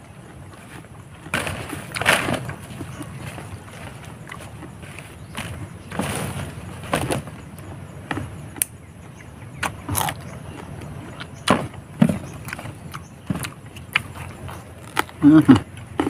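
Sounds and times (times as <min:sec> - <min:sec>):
chewing crunchy fruit: 0:00.0 - 0:16.0.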